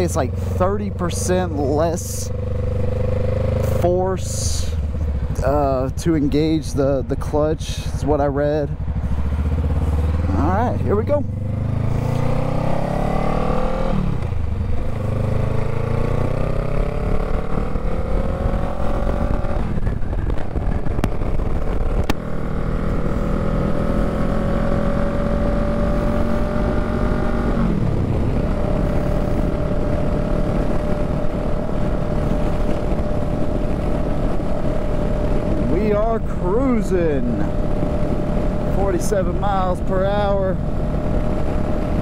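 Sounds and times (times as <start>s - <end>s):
motorcycle engine accelerating: 0.0s - 6.3s, 8.4s - 42.0s
wind rushing over microphone: 0.0s - 42.0s.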